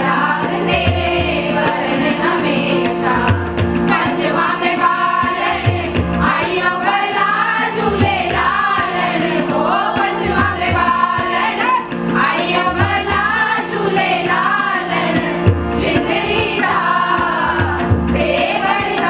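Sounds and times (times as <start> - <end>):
keyboard: 0.0 - 19.0
women singing together: 0.0 - 19.0.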